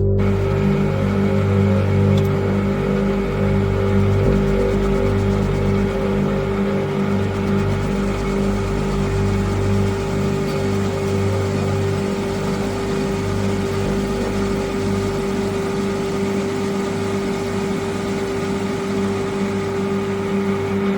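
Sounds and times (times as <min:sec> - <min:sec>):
metal lathe running: 0:00.0 - 0:20.9.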